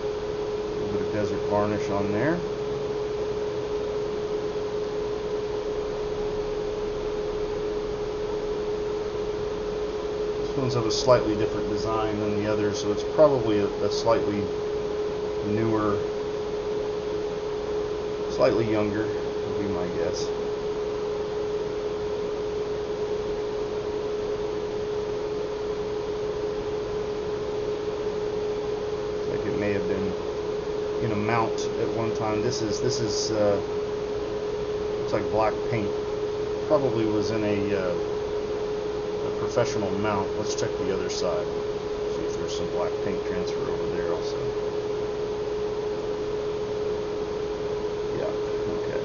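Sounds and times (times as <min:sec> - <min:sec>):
steady single-pitched hum: 0:00.0 - 0:49.0.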